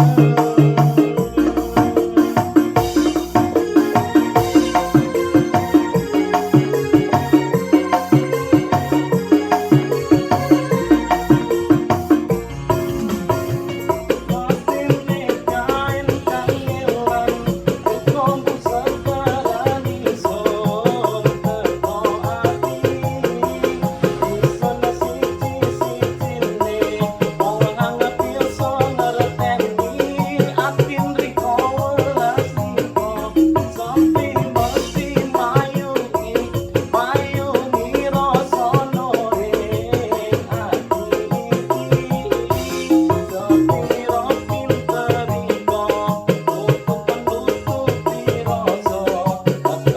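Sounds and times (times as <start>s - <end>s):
keyboard drum rhythm: 0.0s - 49.9s
keyboard melody line: 0.0s - 49.9s.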